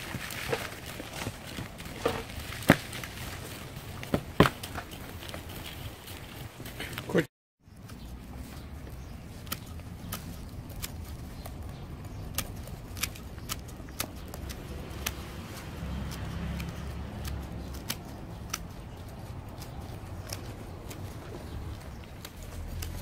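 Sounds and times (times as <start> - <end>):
pruning shears snipping roots: 0.0 - 5.5, 7.8 - 23.0.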